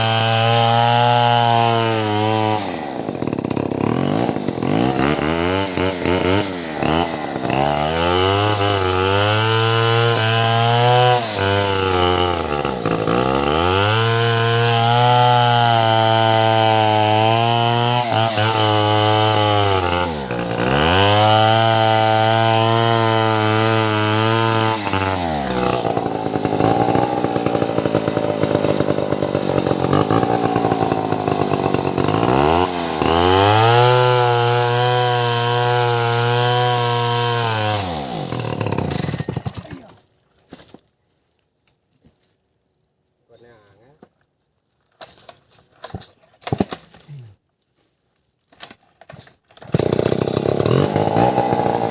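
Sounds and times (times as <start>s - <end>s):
chainsaw grinding into wood: 0.0s - 40.0s, 45.8s - 47.4s, 48.6s - 51.9s
chainsaw revving: 0.0s - 40.0s, 49.6s - 51.9s.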